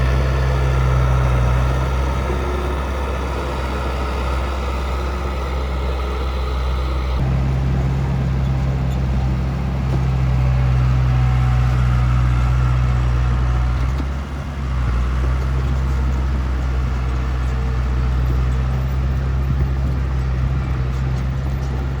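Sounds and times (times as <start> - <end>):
heavy diesel engine humming: 0.0 - 22.0.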